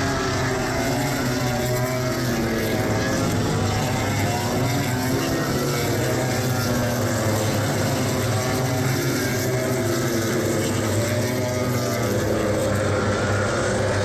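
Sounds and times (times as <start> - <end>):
motorcycle engines at high revs: 0.0 - 14.0.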